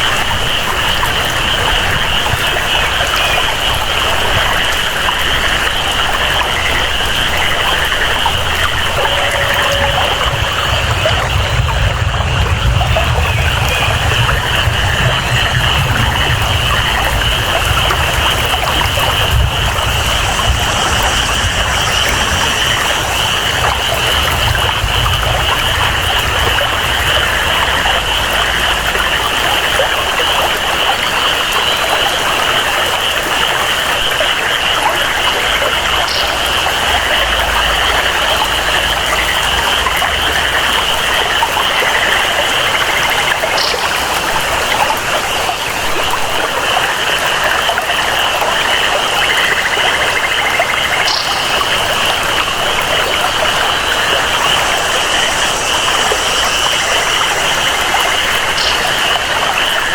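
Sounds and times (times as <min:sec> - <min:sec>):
flowing water: 0:00.0 - 0:59.9
frogs calling: 0:00.0 - 0:59.9
insects chirping: 0:00.0 - 0:59.9
rain: 0:00.0 - 0:59.9.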